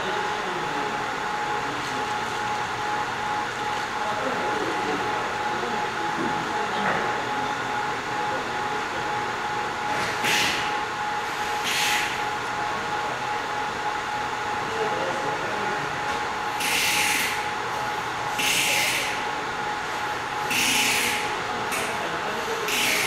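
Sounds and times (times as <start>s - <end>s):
steady fan noise: 0.0s - 23.0s.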